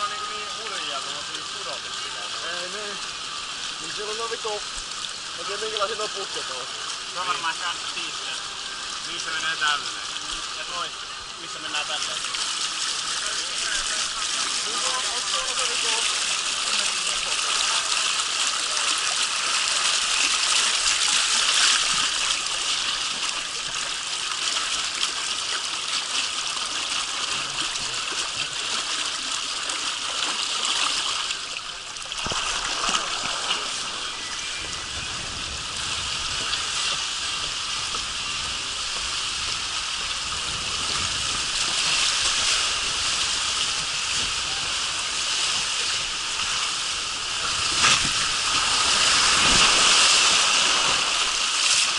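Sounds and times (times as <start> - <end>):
water rushing down a slide: 0.0 - 51.9.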